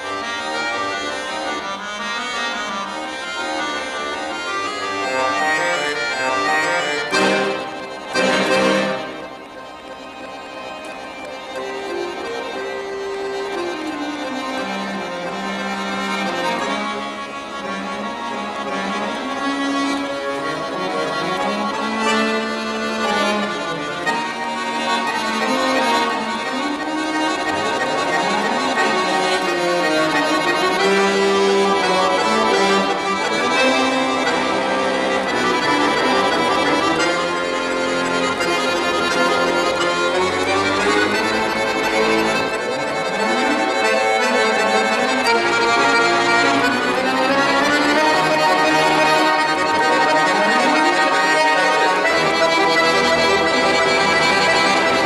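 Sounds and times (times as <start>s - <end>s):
solo accordion playing: 0.0s - 55.0s.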